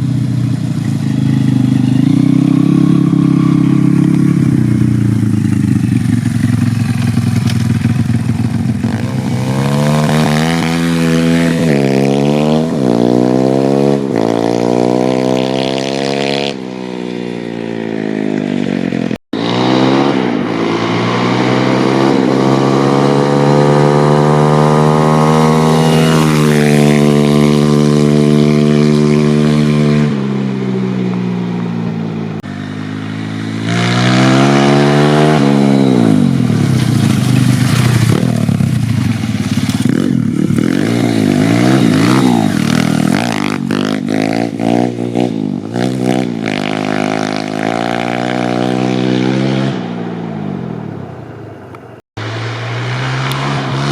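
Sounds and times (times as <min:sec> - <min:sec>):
motorbike engine revving: 0:00.0 - 0:51.0, 0:52.2 - 0:53.9.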